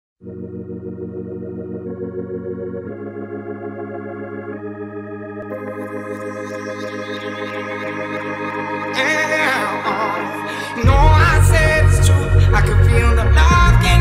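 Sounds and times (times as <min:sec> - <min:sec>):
organ chords: 0:00.2 - 0:14.0.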